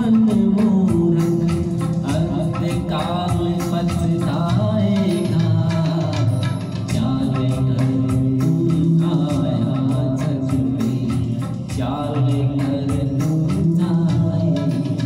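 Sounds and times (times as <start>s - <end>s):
electronic organ backing music: 0.0s - 15.0s
man singing into microphone: 0.0s - 15.0s.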